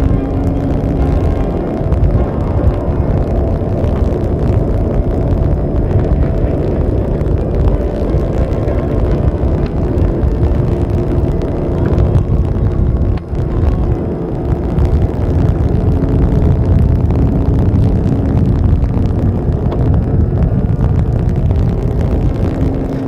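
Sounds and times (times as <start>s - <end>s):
low rumble with droning hum: 0.0s - 23.0s.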